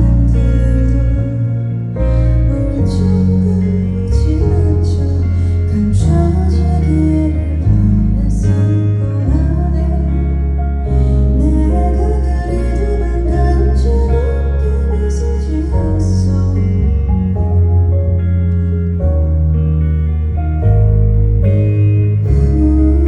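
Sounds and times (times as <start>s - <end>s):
song with guitar and bass: 0.0s - 23.0s.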